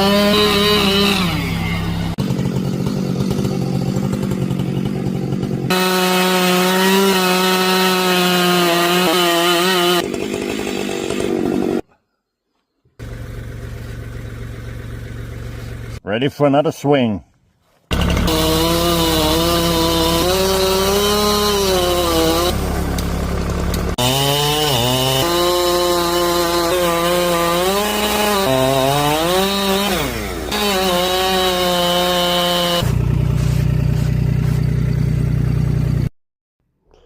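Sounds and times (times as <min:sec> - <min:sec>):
chainsaw cutting wood: 0:00.0 - 0:11.9, 0:13.0 - 0:16.0, 0:17.9 - 0:36.1.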